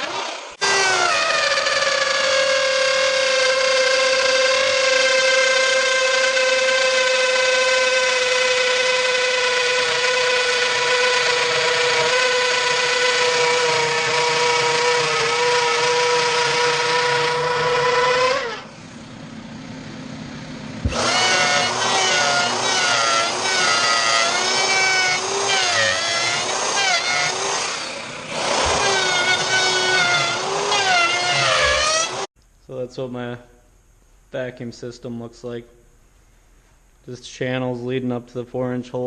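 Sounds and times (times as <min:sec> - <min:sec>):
electric router whining: 0:00.0 - 0:32.3.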